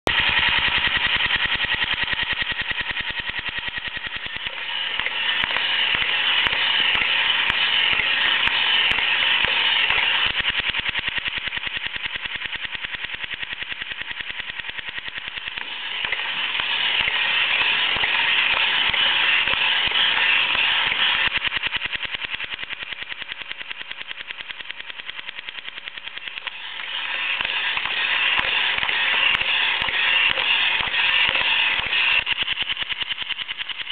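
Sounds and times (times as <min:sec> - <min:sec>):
small engine rattling: 0:00.1 - 0:33.9.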